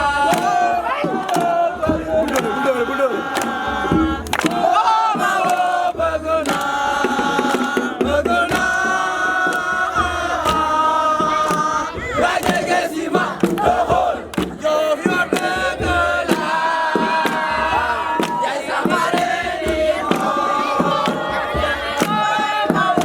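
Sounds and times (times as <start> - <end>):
young voices chanting and singing: 0.0 - 23.0.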